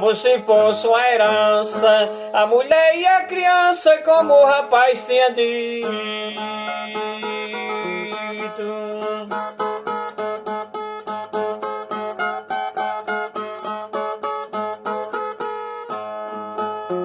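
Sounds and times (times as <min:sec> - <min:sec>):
plucked steel-strung guitar: 0:00.0 - 0:17.0.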